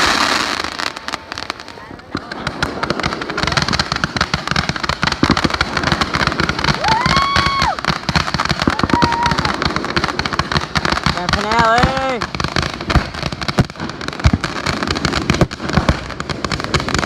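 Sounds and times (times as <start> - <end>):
fireworks crackling: 0.0 - 17.0
whistling fireworks: 0.0 - 17.0.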